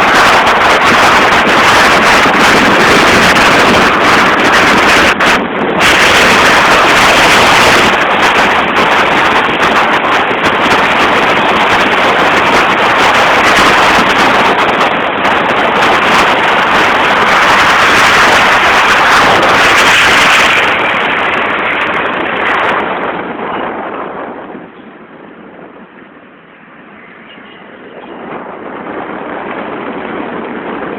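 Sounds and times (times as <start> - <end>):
car road noise: 0.0 - 30.9.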